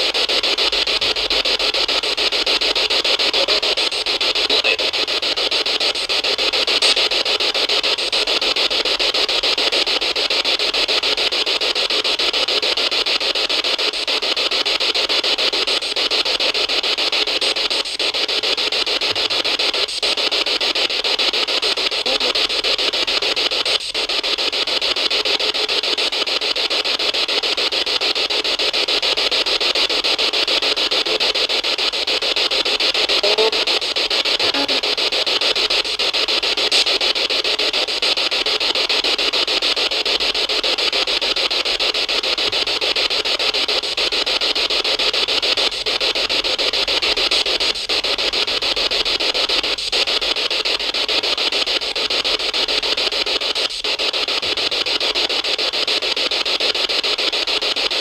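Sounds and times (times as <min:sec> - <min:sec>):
loud static hiss: 0:00.0 - 0:58.0.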